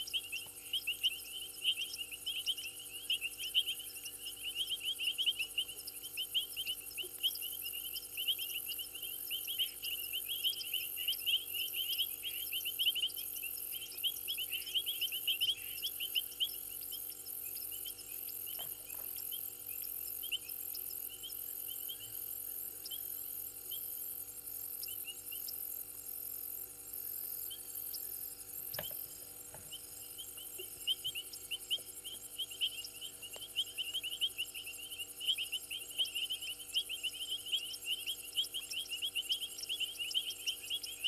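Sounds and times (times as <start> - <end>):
faint steady hum: 0.0 - 41.0
frogs chirping: 0.0 - 41.0
pulsing insect trill: 0.0 - 41.0.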